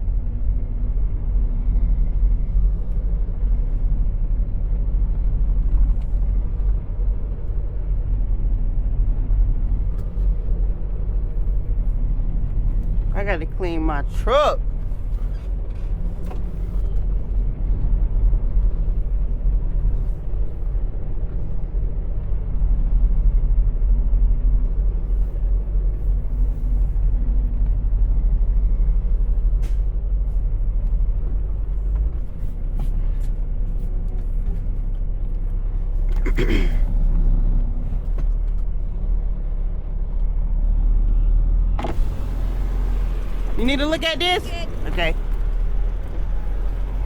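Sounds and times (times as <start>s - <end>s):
truck engine low rumble: 0.0s - 47.0s.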